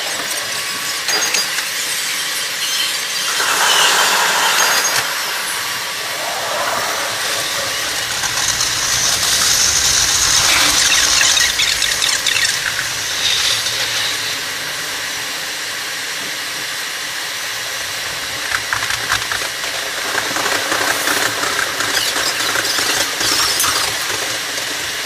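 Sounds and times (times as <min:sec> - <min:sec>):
sped-up train running noise: 0:00.0 - 0:25.0.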